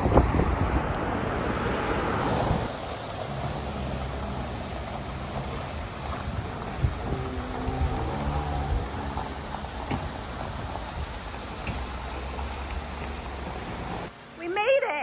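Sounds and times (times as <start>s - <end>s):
vehicle on wet road: 0.0s - 14.8s
rain falling: 0.0s - 15.0s.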